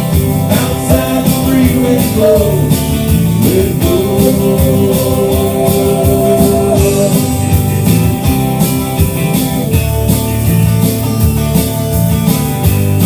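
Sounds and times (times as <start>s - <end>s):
bass guitar: 0.0s - 13.0s
drum kit beat: 0.0s - 13.0s
electric guitars: 0.0s - 13.0s.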